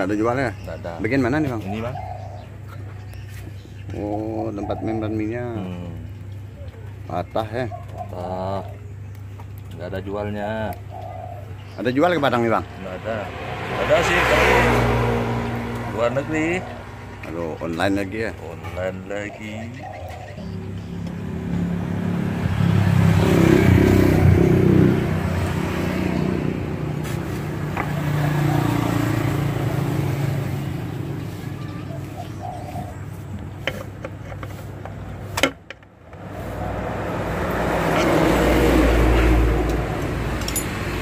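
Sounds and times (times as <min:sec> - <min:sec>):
motor vehicle engine: 0:00.0 - 0:41.0.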